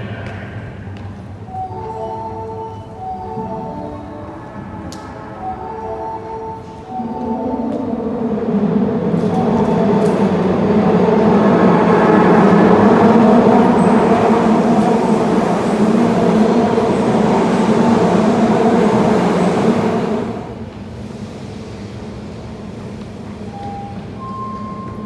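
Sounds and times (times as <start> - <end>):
subway train rumble: 0.0 - 25.0
train motor hum: 3.0 - 23.4.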